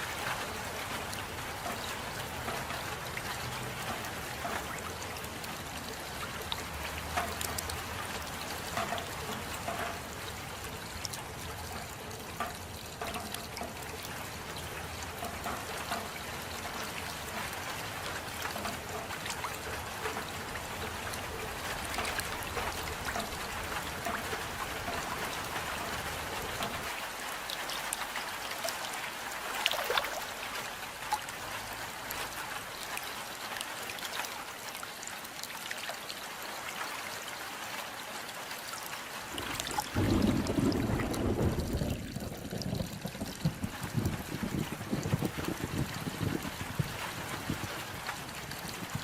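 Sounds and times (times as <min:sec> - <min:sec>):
steady rain: 0:00.0 - 0:49.0
water trickling: 0:00.0 - 0:49.0.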